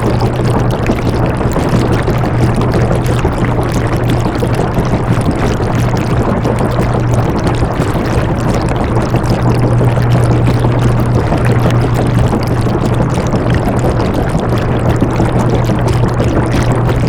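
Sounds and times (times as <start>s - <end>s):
washing machine motor hum: 0.0s - 17.0s
water churning in drum: 0.0s - 17.0s.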